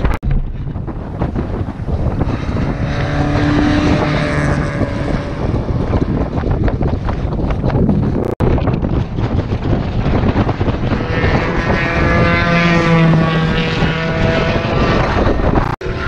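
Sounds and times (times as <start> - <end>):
race car engine at full throttle: 0.0 - 16.0
wind buffeting microphone: 0.0 - 16.0.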